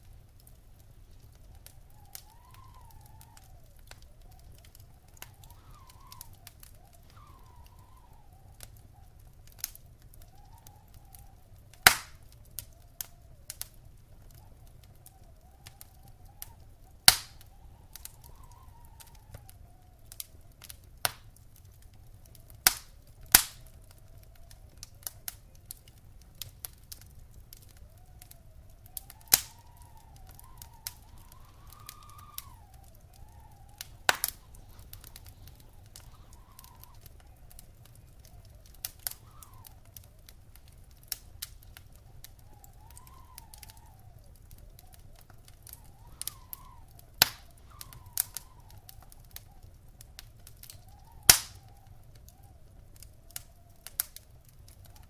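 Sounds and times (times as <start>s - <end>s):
fire snapping and popping: 0.0s - 55.0s
low fire rumble: 0.0s - 55.0s
faint whistle: 1.0s - 20.5s, 22.3s - 55.0s.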